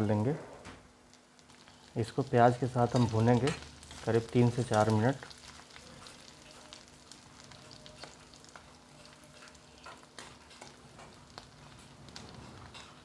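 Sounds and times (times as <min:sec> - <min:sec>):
vegetables sizzling in oil: 0:00.9 - 0:13.0.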